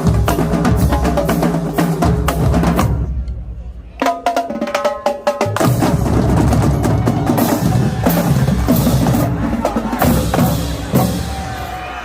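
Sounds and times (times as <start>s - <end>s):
marching drumline playing: 0.0s - 3.2s, 4.0s - 12.0s.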